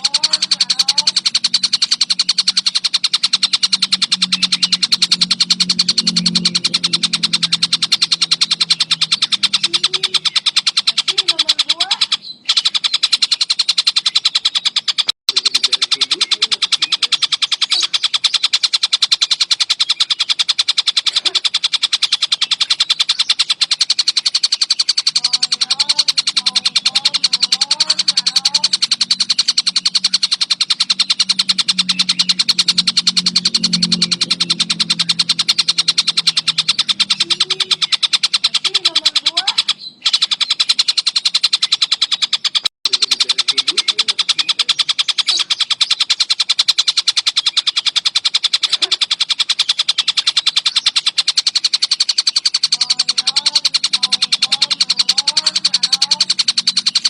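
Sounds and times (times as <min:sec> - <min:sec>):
kingfisher calling rapid sharp notes: 0:00.0 - 0:57.0.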